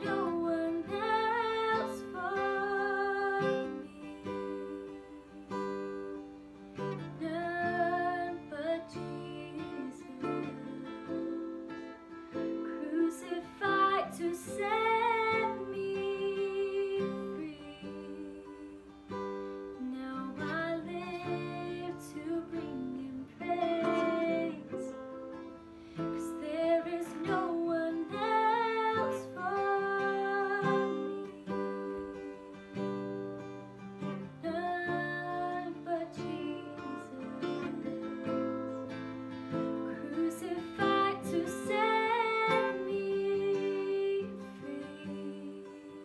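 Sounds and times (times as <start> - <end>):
person singing: 0.0 - 6.2, 6.9 - 11.6, 12.7 - 19.1, 19.8 - 25.0, 26.1 - 33.1, 34.3 - 39.1, 39.8 - 46.0
acoustic guitar strumming: 0.0 - 46.0.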